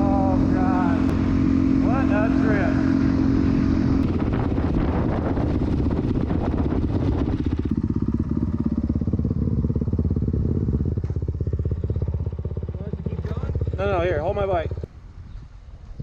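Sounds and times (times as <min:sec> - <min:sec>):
dirt bike engine idling: 0:00.0 - 0:15.3.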